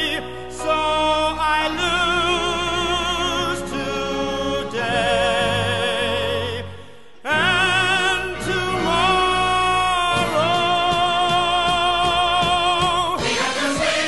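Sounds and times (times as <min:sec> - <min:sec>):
musical accompaniment: 0:00.0 - 0:14.0
voices singing with vibrato: 0:00.0 - 0:14.0.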